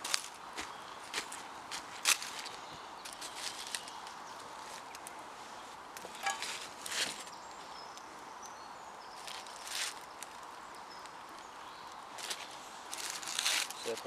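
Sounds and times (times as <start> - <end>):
wood fire burning: 0.0 - 8.5, 9.2 - 14.0.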